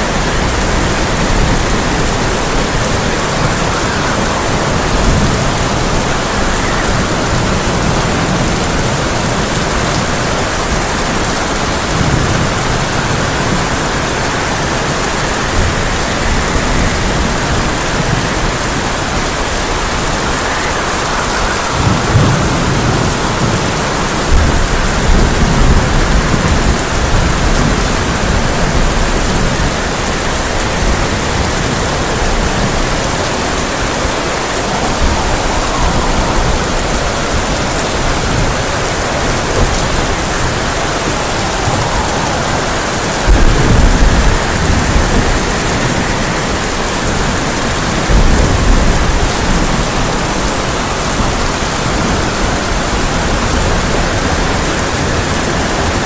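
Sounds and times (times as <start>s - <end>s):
heavy rain on a tin roof: 0.0s - 56.0s
thunder rumbling: 0.0s - 56.0s.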